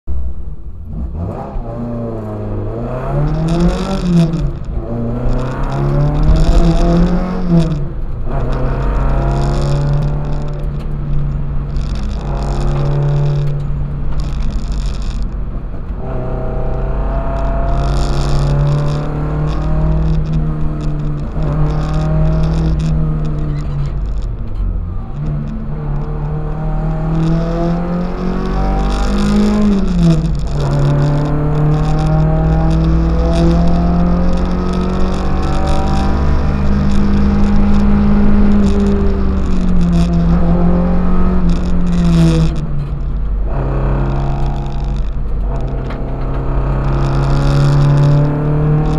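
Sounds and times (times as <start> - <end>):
car engine accelerating hard: 0.5 - 48.9.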